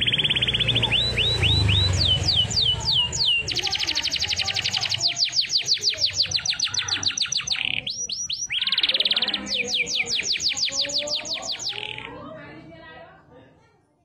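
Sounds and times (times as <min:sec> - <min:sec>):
canary singing: 0:00.0 - 0:12.4.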